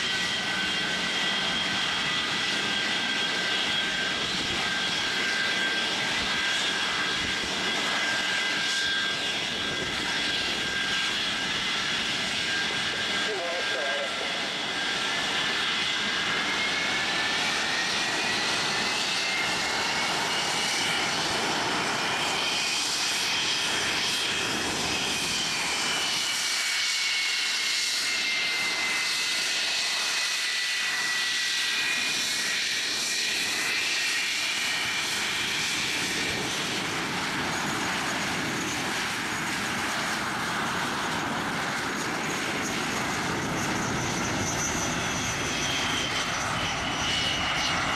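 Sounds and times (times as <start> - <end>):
high turbine whine: 0.0 - 47.9
jet engine roar: 0.0 - 47.9.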